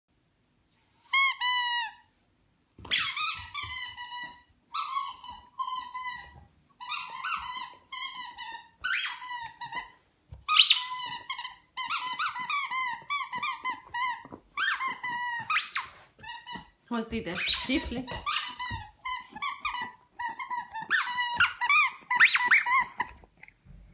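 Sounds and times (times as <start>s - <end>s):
squeaky toy squeaking: 0.8s - 2.1s, 2.8s - 23.3s.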